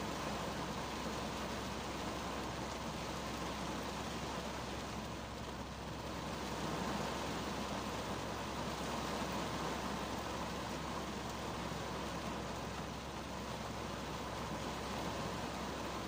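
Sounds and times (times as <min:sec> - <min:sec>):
rain on car roof: 0:00.0 - 0:16.0.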